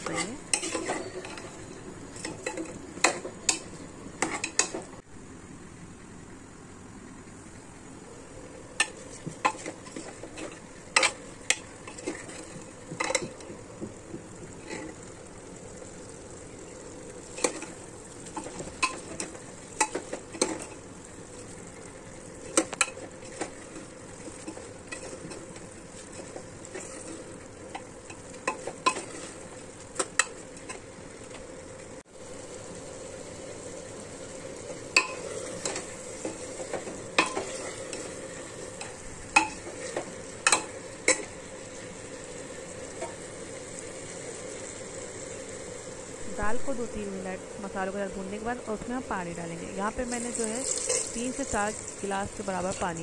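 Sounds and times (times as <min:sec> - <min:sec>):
faint sizzle: 0:00.0 - 0:53.0.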